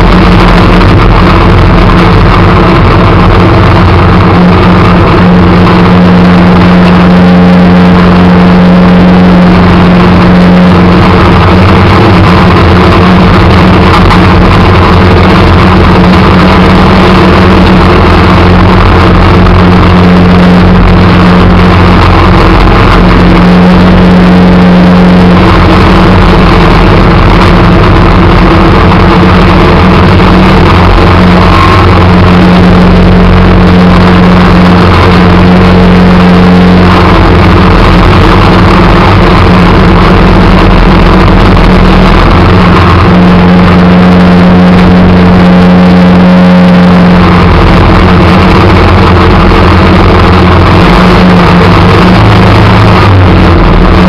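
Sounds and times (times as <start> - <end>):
snow plow engine running: 0.0 - 54.0.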